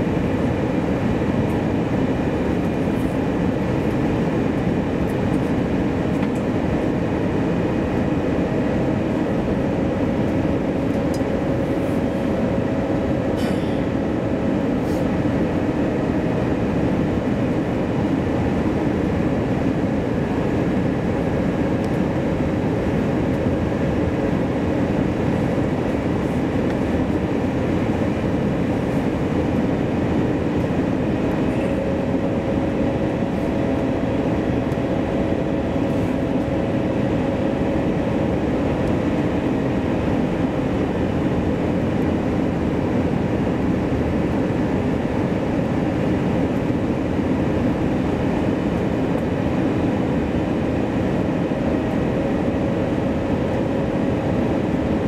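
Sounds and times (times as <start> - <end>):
airliner cabin noise: 0.0 - 55.0
faint steady whine: 0.0 - 55.0.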